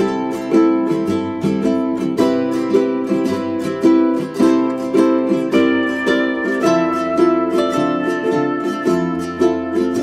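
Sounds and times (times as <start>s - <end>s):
plucked-string tune: 0.0s - 10.0s.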